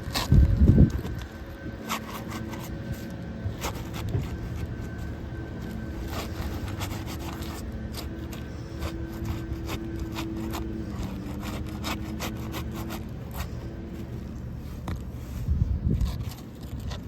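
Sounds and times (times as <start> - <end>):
rubbing and scraping: 0.0 - 17.0
steady low hum: 0.0 - 17.0.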